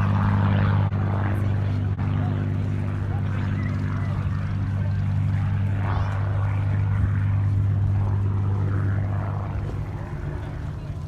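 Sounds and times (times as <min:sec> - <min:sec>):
crowd murmuring: 0:00.0 - 0:11.0
propeller aircraft engine droning: 0:00.0 - 0:11.0.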